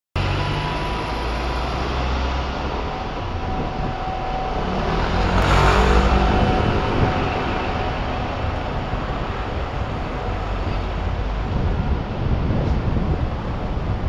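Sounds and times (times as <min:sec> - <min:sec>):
bus passing close: 0:00.2 - 0:14.0
engine hum: 0:00.2 - 0:14.0
road noise: 0:00.2 - 0:14.0.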